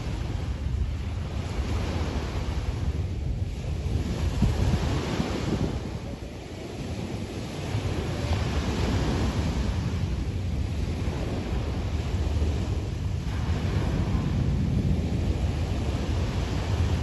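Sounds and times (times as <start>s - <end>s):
sea waves washing onto beach: 0.0s - 17.0s
wind buffeting microphone: 0.0s - 17.0s.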